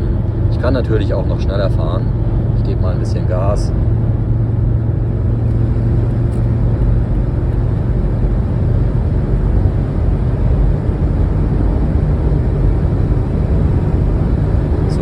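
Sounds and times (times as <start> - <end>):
van driving at speed: 0.0 - 15.0.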